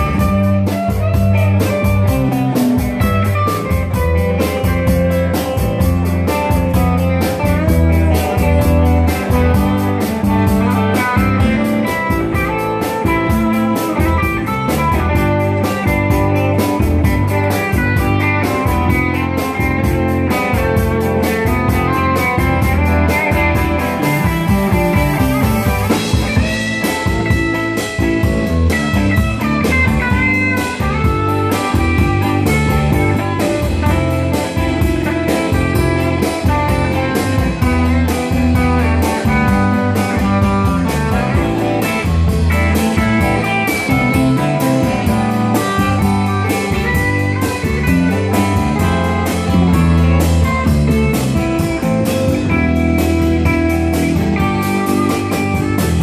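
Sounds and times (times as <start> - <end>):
drum kit steady beat: 0.0 - 56.0
electric guitars: 0.0 - 56.0.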